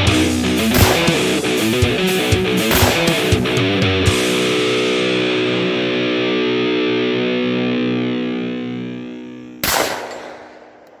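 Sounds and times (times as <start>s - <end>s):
distorted electric guitar chord: 0.0s - 9.6s.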